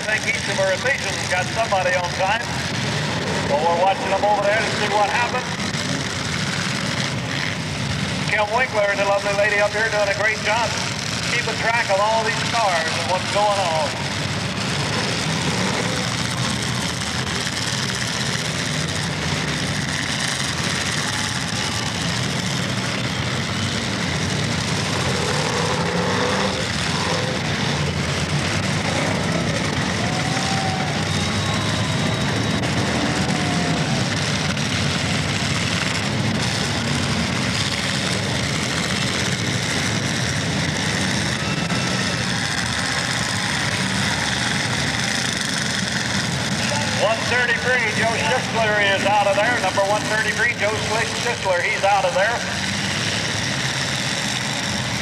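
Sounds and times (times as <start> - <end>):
car engines droning: 0.0 - 55.0.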